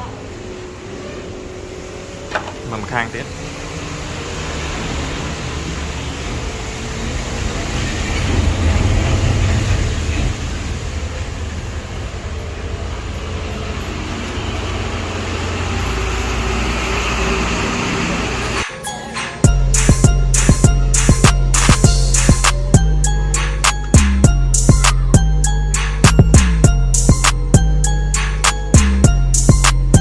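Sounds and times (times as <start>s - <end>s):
low rumble of vehicle noise: 0.0s - 18.6s, 19.4s - 30.0s.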